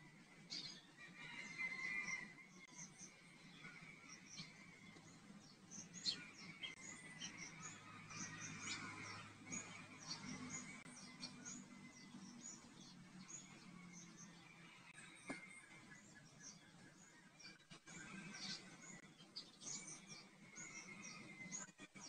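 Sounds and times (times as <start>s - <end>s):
faint bird chirping: 0.0s - 22.0s.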